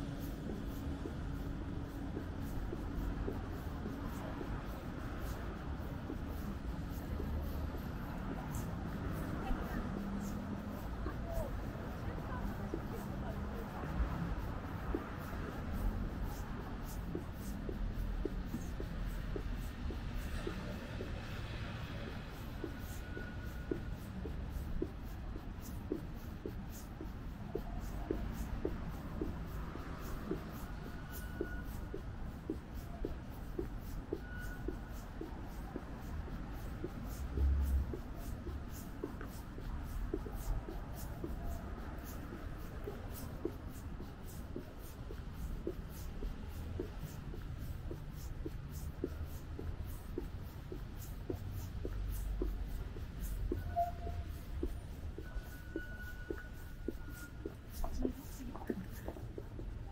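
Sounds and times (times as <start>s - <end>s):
footsteps walking: 0.0s - 59.9s.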